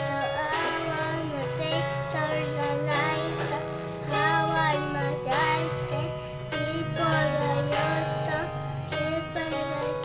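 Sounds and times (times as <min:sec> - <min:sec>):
boy singing pop song: 0:00.0 - 0:10.0
instrumental backing music: 0:00.0 - 0:10.0.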